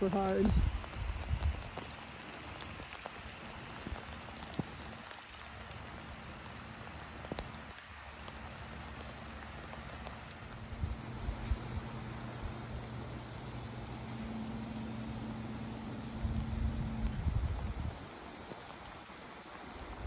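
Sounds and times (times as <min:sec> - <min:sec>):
hard rain falling: 0:00.0 - 0:20.0.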